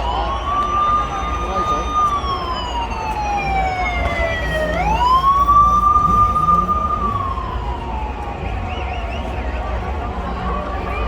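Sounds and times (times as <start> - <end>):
siren wailing: 0.0 - 10.8.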